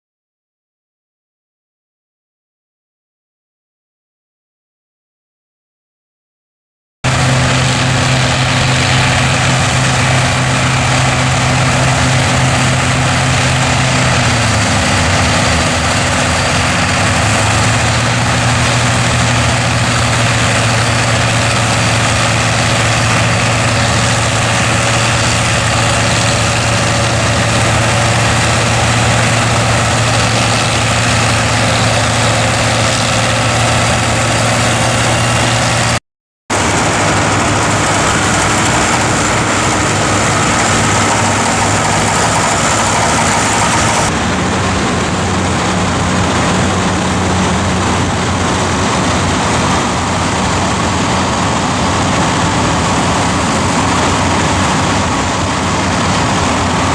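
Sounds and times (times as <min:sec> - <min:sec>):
dense mechanical din: 0:07.0 - 0:56.9
tractor diesel engine running: 0:07.0 - 0:56.9.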